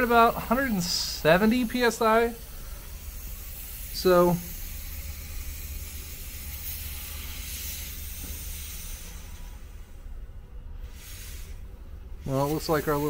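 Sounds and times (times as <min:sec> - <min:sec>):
compressed air hissing from valve: 0:00.0 - 0:13.0
low steady hum: 0:00.0 - 0:13.0.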